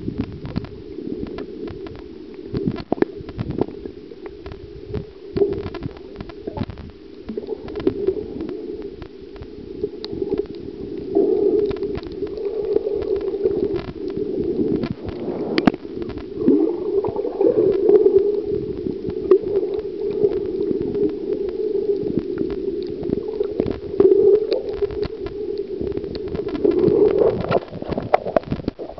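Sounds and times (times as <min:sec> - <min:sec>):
sharp clicks and crackles: 0:00.0 - 0:28.9
underwater rumble of moving water: 0:00.0 - 0:28.9.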